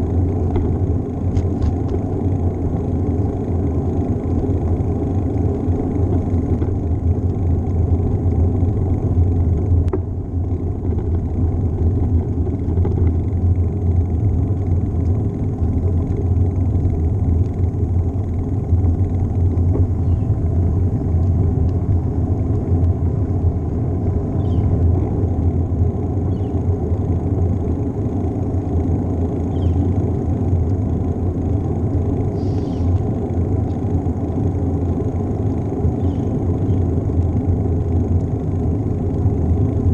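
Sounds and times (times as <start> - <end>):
tyres rolling on pavement: 0.0 - 39.9.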